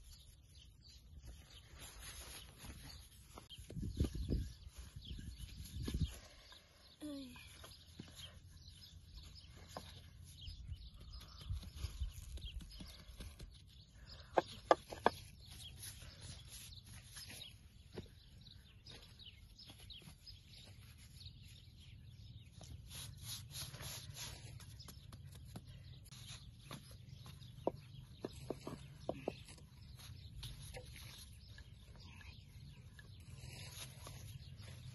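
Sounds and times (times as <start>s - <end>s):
outdoor background noise: 0.0s - 34.9s.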